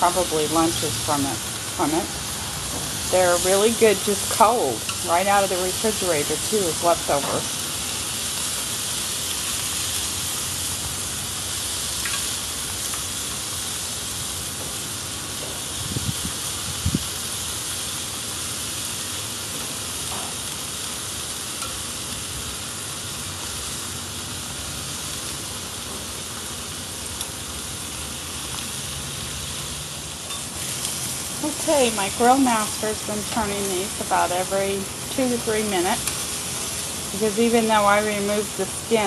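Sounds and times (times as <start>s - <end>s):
chicken sizzling on a grill: 0.0s - 39.0s.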